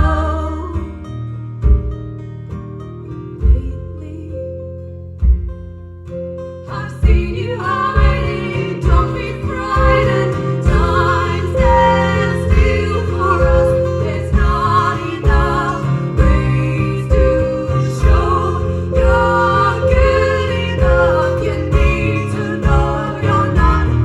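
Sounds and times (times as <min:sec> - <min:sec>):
live band with guitars: 0:00.0 - 0:24.0.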